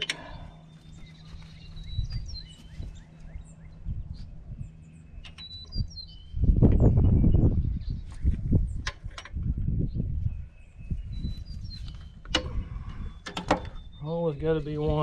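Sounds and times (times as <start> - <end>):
loud low rumbling: 0.0 - 13.2
small birds chirping: 0.0 - 15.0
steady low hum: 0.0 - 15.0.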